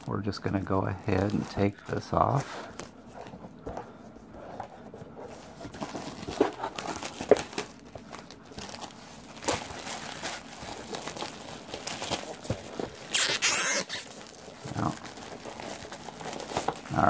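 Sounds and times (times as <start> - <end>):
shrink wrap crinkling and tearing: 0.0 - 2.9, 5.7 - 17.0.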